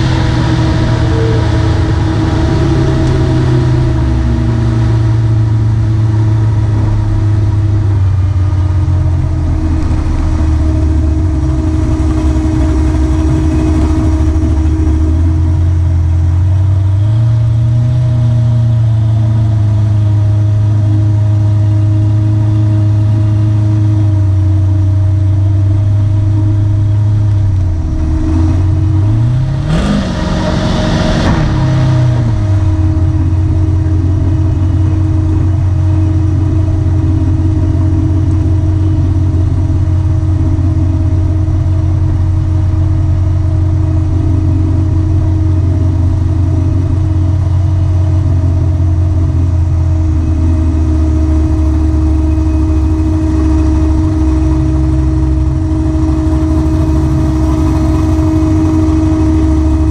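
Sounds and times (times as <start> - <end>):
truck engine idling: 0.0 - 59.9
truck engine revving: 0.0 - 59.9.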